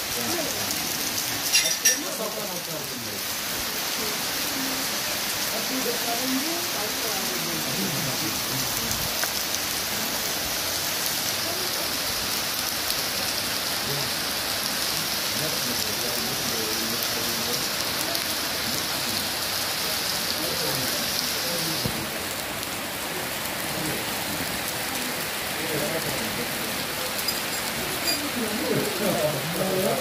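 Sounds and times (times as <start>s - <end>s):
rain falling on trees: 0.0s - 30.0s.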